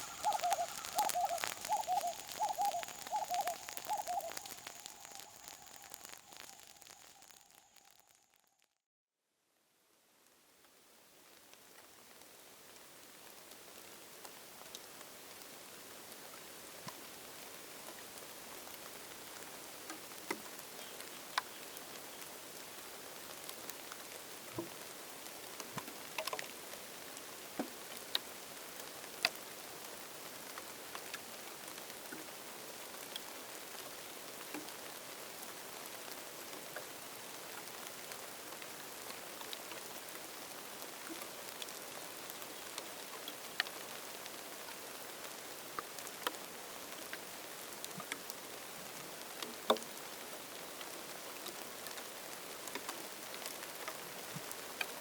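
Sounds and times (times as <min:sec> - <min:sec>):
steady rain hiss: 0:00.0 - 0:08.5, 0:09.6 - 0:55.0
raindrops ticking close by: 0:00.0 - 0:08.7, 0:10.7 - 0:55.0.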